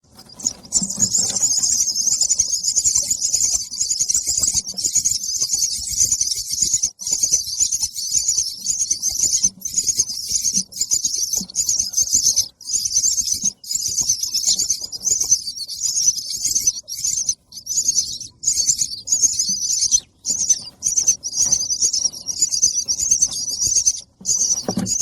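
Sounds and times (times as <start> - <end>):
baby bird begging call: 0.2 - 25.0.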